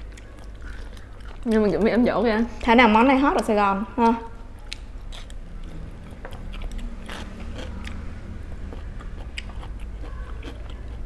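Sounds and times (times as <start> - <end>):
chewing and crunching: 0.0 - 3.4, 4.5 - 11.0.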